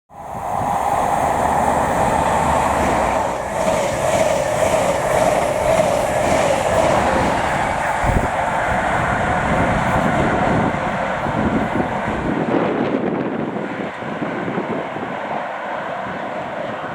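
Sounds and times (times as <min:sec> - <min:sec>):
train passing: 0:00.1 - 0:16.9.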